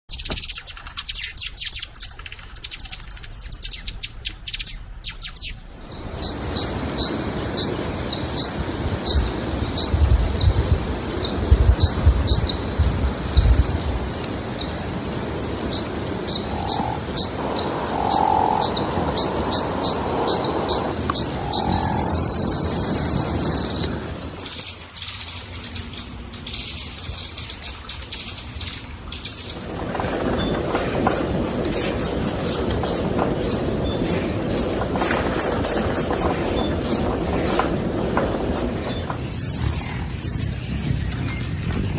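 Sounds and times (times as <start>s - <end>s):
bird chirping: 0.1s - 41.9s
steady rushing noise: 4.7s - 41.9s.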